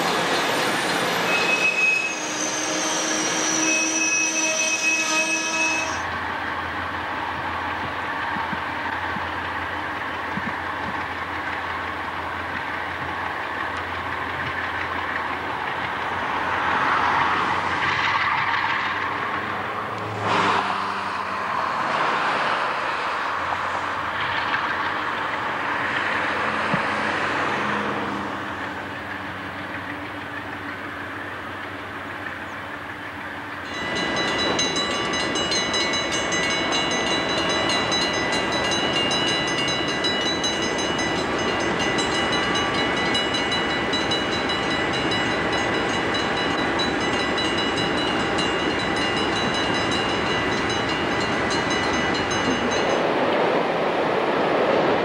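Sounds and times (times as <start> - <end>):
diesel locomotive rumbling: 0.0 - 55.0
distant freight train: 0.0 - 55.0.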